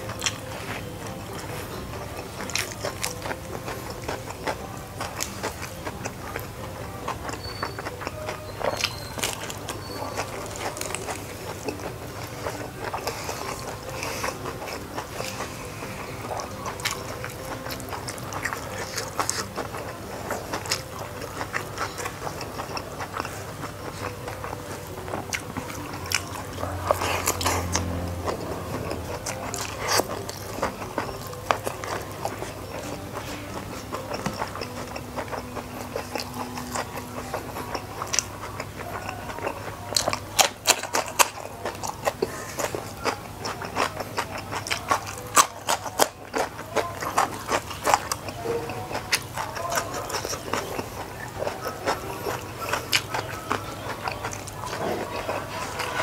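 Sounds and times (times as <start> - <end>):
chewing crunchy raw vegetables: 0.0 - 56.0.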